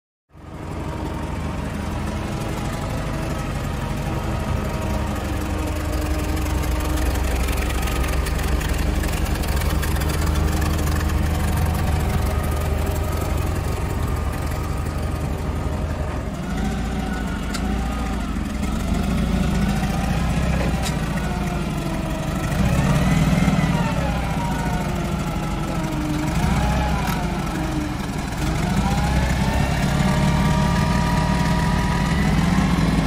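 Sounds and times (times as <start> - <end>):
forklift engine idling: 0.4 - 33.0.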